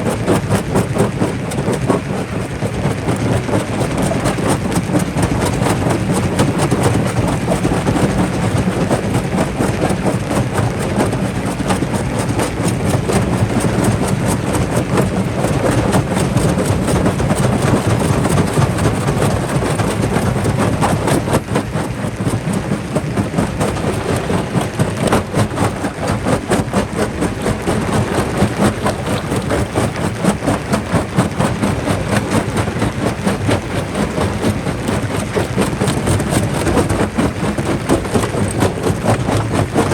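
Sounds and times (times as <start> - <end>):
rock crusher drone: 0.0 - 39.9.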